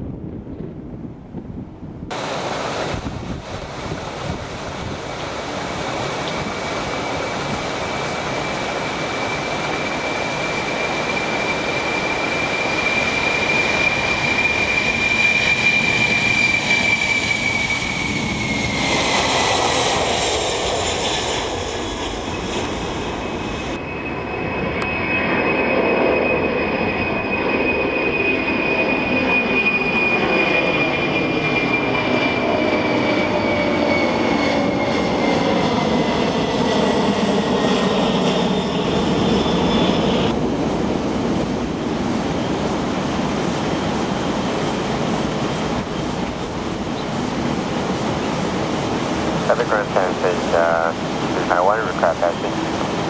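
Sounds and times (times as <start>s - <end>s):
jet engine noise with whine: 0.0s - 53.0s.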